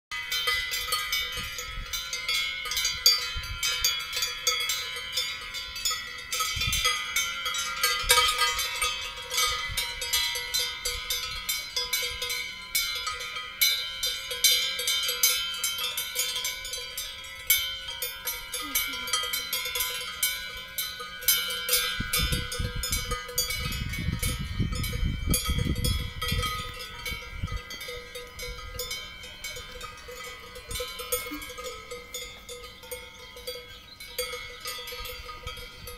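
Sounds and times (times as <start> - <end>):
cowbells clanging: 0.1 - 35.9.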